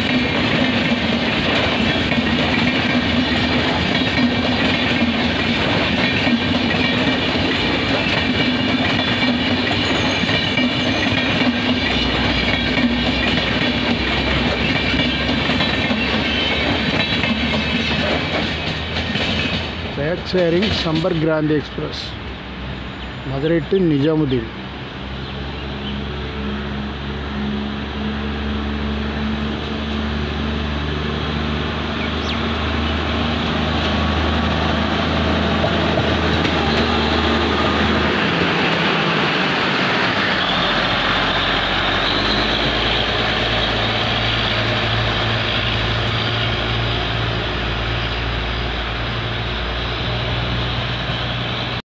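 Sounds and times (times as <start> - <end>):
wheels rumbling on track: 0.0 - 51.8.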